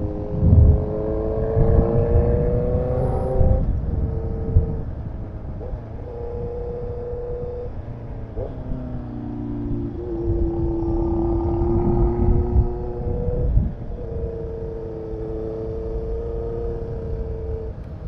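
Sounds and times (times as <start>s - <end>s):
motorcycle exhaust note: 0.0s - 18.0s.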